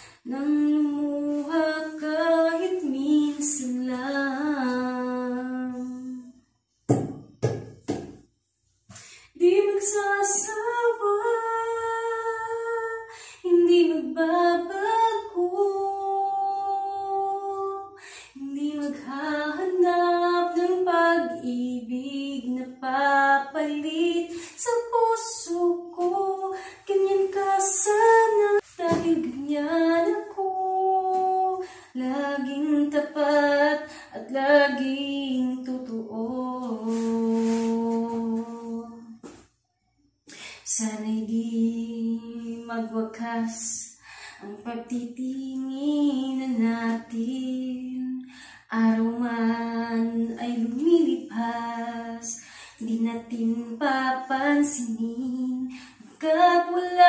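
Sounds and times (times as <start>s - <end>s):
woman singing unaccompanied: 0.0s - 6.8s, 9.3s - 39.4s, 40.3s - 57.0s.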